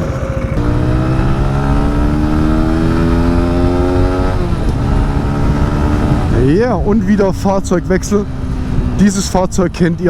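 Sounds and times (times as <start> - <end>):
scooter engine accelerating: 0.0 - 9.0
low wind rumble: 0.0 - 10.0.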